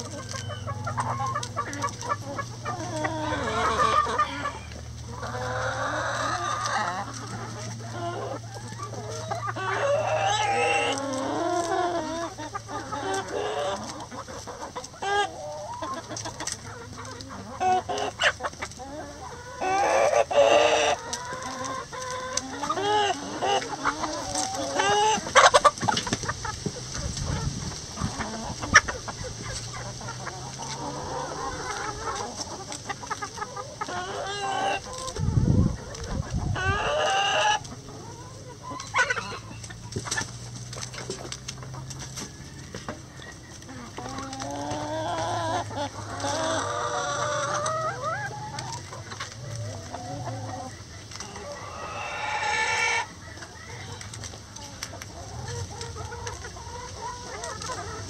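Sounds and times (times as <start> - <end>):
beaks pecking at cabbage: 0.0 - 36.2, 37.2 - 58.0
hens clucking: 0.0 - 58.0.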